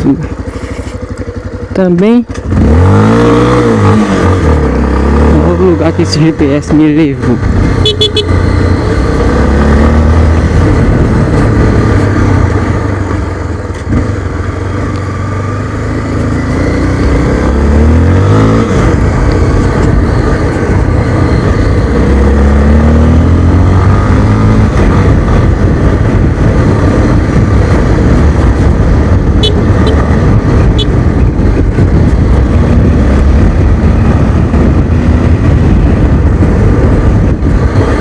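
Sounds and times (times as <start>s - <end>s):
motorcycle engine accelerating: 0.0s - 38.0s
wind and road noise: 0.0s - 38.0s.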